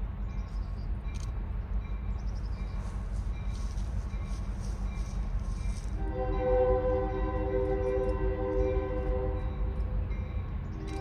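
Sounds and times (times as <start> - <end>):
diesel freight train rumble: 0.0 - 11.0.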